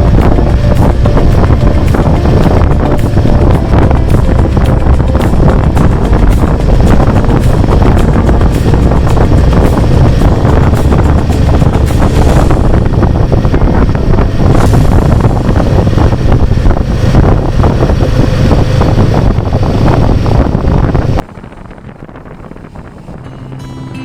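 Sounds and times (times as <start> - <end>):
motorcycle engine running: 0.0 - 23.3
wind rush on microphone: 0.0 - 24.0.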